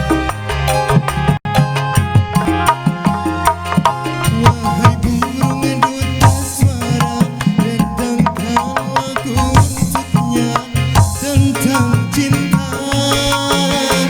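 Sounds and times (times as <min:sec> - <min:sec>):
hand drums fast rhythm: 0:00.9 - 0:14.0
sustained keyboard lines: 0:02.2 - 0:14.0.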